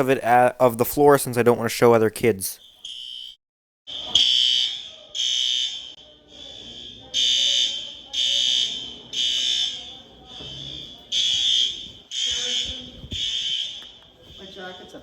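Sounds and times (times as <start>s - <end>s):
fire alarm honking: 2.6s - 15.0s.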